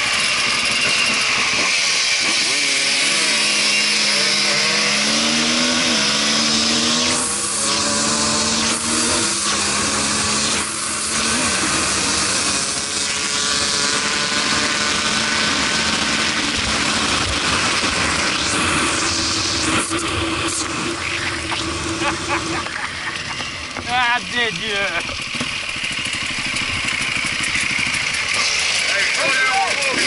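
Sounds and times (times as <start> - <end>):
dirt bike engine accelerating: 0.0 - 30.0.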